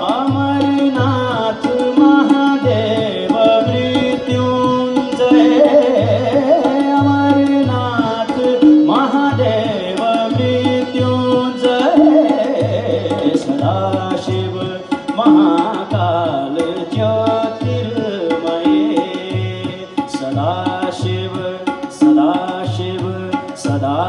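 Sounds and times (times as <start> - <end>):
person singing: 0.0 - 24.0
tabla beat: 0.0 - 24.0.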